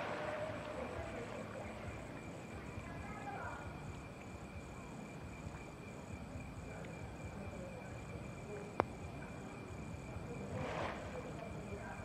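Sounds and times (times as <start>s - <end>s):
low rumbling background noise: 0.0s - 12.0s
night insects chirring: 0.0s - 12.0s.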